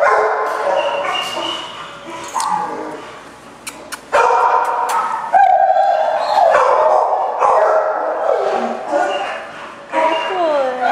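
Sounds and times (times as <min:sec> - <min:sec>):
dogs barking and yelping: 0:00.0 - 0:10.9.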